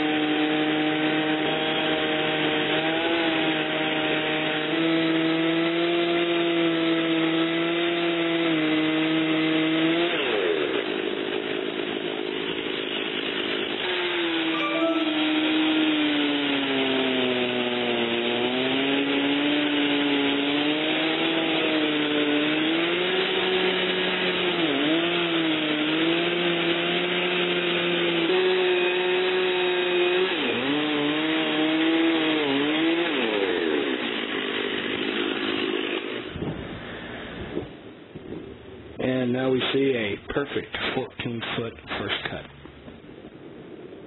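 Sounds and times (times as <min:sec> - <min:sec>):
chainsaw ripping through a log: 0:00.0 - 0:38.4.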